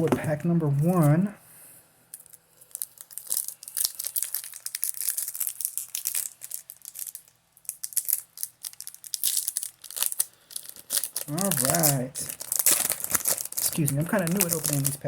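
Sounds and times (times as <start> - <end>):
foil wrapper crinkling and tearing: 2.1 - 15.0.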